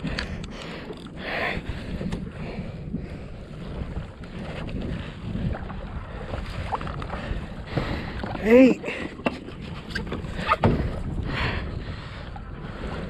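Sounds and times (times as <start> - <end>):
water slapping against kayak hull: 0.0 - 13.0
wind buffeting microphone: 0.0 - 13.0.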